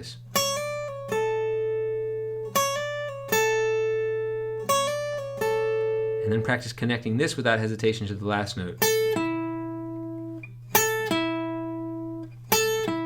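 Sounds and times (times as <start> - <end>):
guitar playing notes: 0.0 - 13.0.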